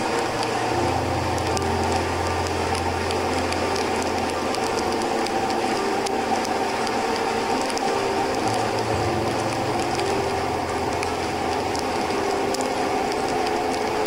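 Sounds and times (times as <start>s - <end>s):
faint ticks: 0.0s - 14.0s
wet road noise: 0.0s - 14.0s.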